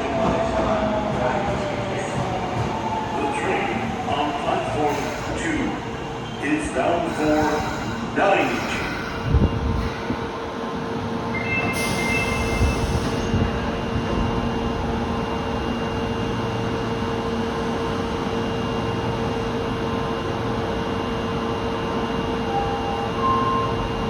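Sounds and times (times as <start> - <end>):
subway train running hum: 0.0 - 24.0.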